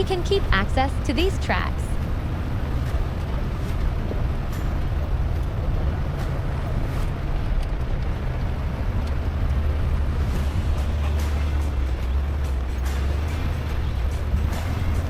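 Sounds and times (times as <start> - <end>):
car engine drone: 0.0 - 15.0
road noise: 0.0 - 15.0.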